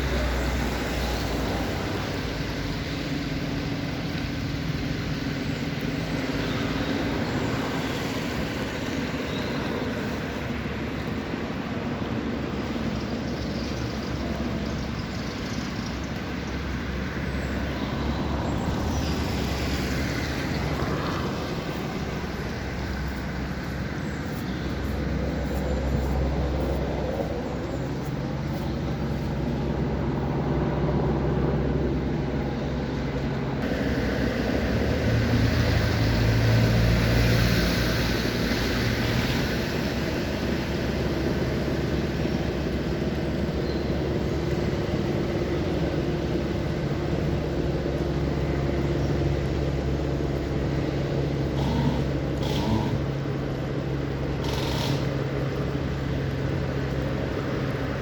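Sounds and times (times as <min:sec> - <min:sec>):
motor engines humming: 0:00.0 - 0:58.0
outdoor rumble: 0:00.0 - 0:58.0.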